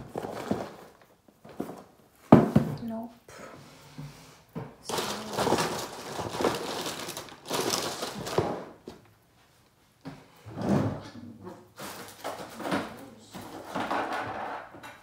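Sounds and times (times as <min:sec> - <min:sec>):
objects rustling and knocking: 0:00.0 - 0:15.0.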